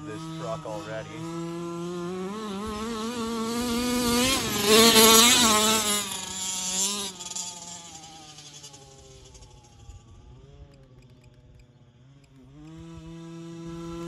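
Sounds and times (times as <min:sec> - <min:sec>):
rc truck engine buzzing: 0:00.0 - 0:14.0.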